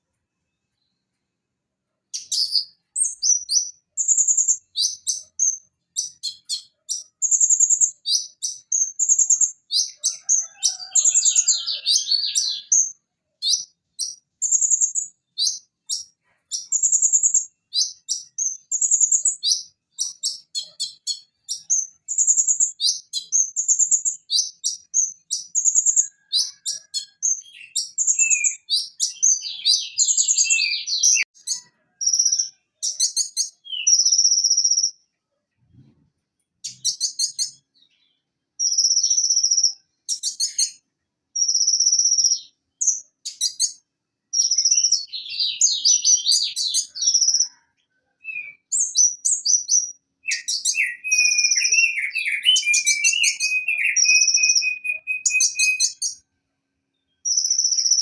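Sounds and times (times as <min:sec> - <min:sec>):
bird singing high chirps: 0:02.1 - 0:35.0, 0:36.6 - 0:40.8, 0:41.4 - 0:47.6, 0:48.2 - 0:56.2, 0:56.9 - 0:58.0.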